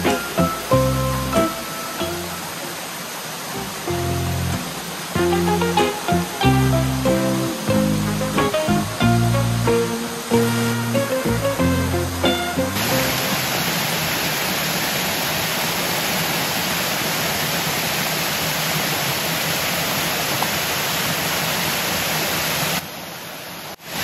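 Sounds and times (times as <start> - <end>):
waterfall rushing water: 0.0 - 24.0.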